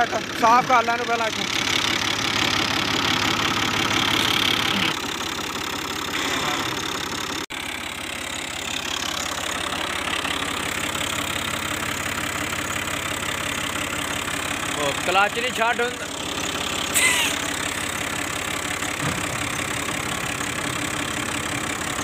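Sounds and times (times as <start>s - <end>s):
tractor diesel engine idling: 0.0s - 22.0s.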